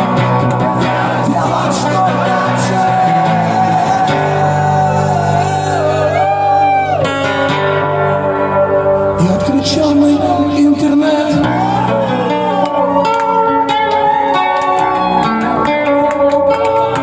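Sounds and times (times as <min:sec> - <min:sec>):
rock song with guitar and singing: 0:00.0 - 0:17.0.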